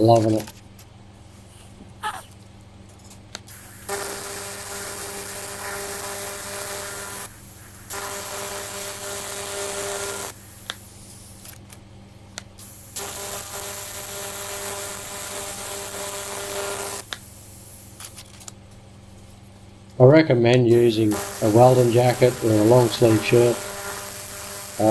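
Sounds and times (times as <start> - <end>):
welding arc buzzing hiss: 0.0 - 0.4, 1.1 - 2.3, 3.1 - 18.8, 20.5 - 24.9
steady low hum: 0.0 - 18.0, 18.6 - 24.9.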